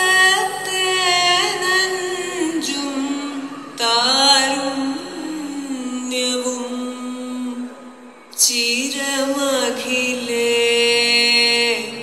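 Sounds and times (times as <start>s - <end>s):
woman singing long melodic notes: 0.0s - 12.0s.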